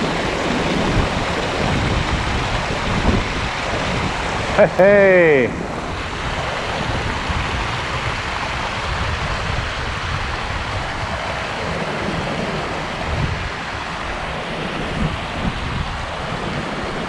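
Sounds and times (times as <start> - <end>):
stream water flowing: 0.0 - 17.0
wind buffeting microphone: 0.0 - 17.0.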